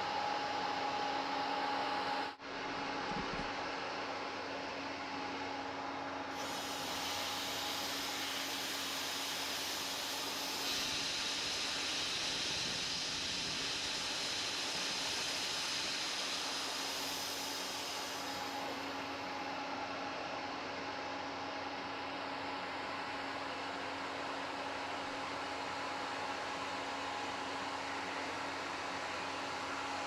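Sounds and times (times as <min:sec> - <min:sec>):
air compressor hissing and humming: 0:00.0 - 0:30.0.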